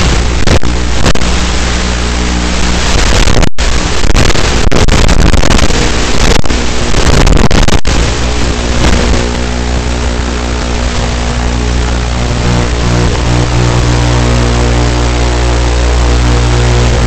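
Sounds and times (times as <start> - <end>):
drone motors running: 0.0 - 17.0.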